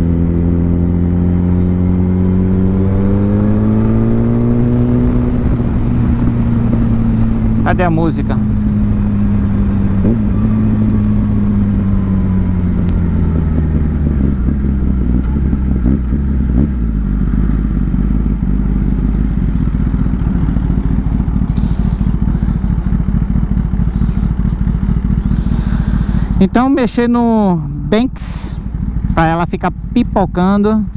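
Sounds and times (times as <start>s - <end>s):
wind rumble on microphone: 0.0s - 30.2s
motorcycle engine running: 0.0s - 30.9s.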